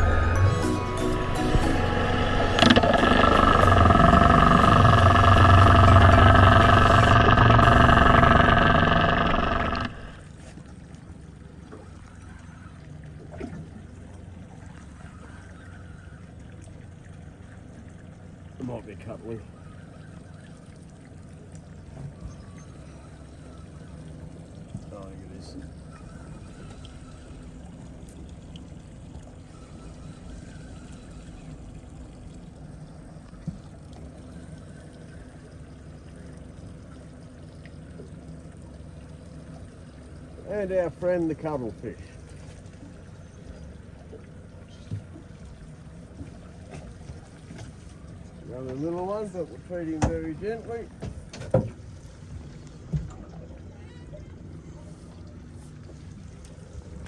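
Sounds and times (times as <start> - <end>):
boat engine running: 0.0 - 57.0
faint water sounds: 0.0 - 57.0.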